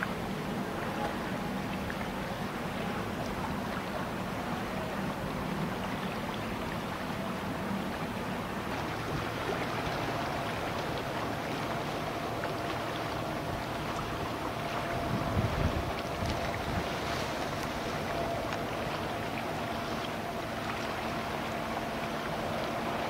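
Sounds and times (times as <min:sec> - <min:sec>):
ship engine hum: 0:00.0 - 0:23.0
water rushing along hull: 0:00.0 - 0:23.0.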